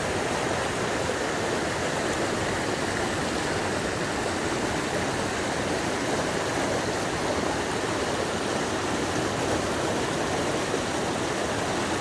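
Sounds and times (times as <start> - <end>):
stream water rushing over rocks: 0.0 - 12.0.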